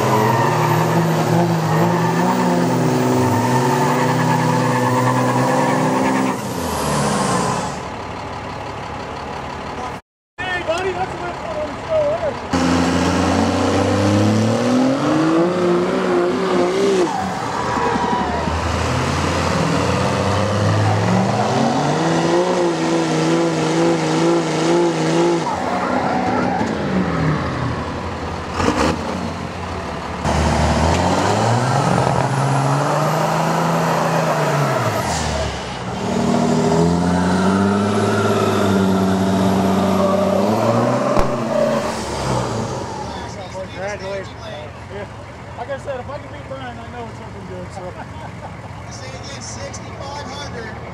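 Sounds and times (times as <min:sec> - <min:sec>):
pickup truck engines revving: 0:00.0 - 0:07.9, 0:11.7 - 0:50.9.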